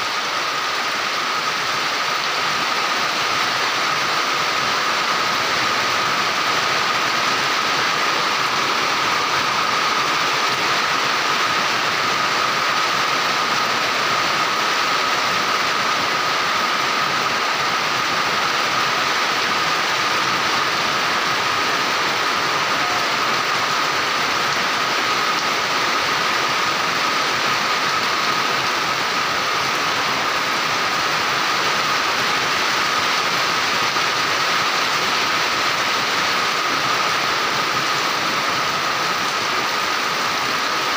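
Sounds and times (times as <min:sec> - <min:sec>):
heavy rain on concrete and roofs: 0:00.0 - 0:40.9.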